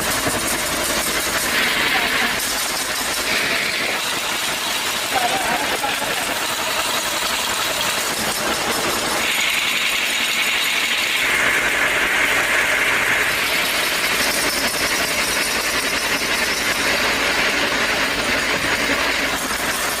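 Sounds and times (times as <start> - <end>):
machinery whirring and hissing: 0.0 - 20.0.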